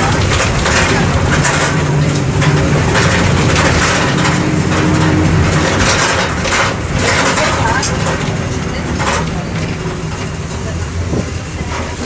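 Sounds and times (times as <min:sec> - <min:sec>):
bus diesel engine running: 0:00.0 - 0:12.0
rattling and clatter: 0:00.0 - 0:12.0.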